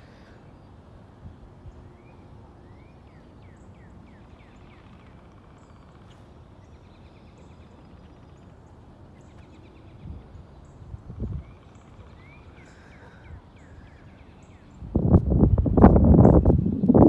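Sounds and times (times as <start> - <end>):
low rumble of wind: 0.0 - 17.0
wild birds singing: 0.0 - 17.0.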